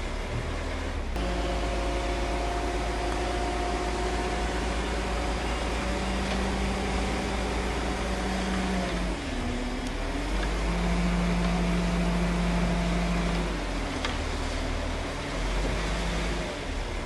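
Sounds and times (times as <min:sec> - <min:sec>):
earthmoving machine diesel engine: 0:00.0 - 0:17.0.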